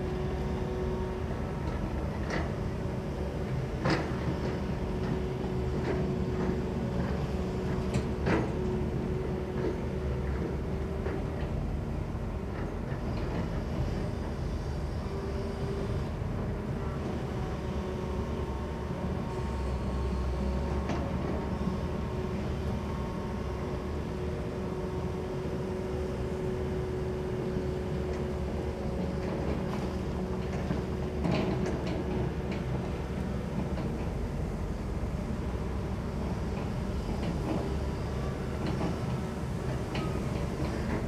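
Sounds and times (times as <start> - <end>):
excavator running: 0.0 - 41.0.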